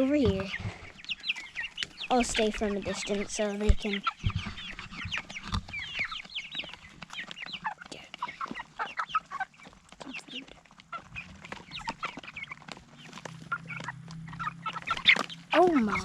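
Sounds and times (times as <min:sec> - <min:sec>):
chicks cheeping: 0:00.0 - 0:16.0.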